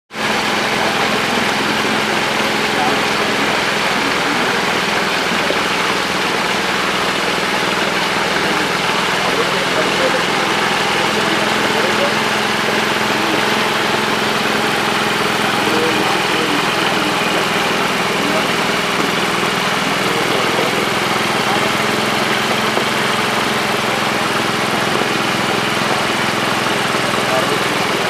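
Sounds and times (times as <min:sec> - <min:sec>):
engine humming: 0:00.1 - 0:28.0
water spraying and splashing: 0:00.2 - 0:28.0.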